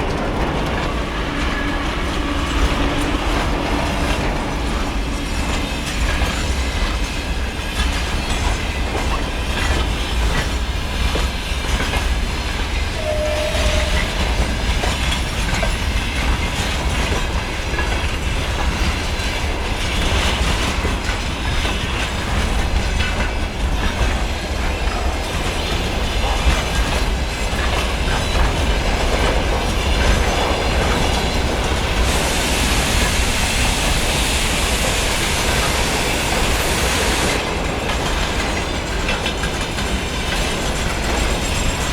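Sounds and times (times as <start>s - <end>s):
train passing close by: 0.0s - 41.9s
wheels clattering over rail joints: 0.0s - 41.9s.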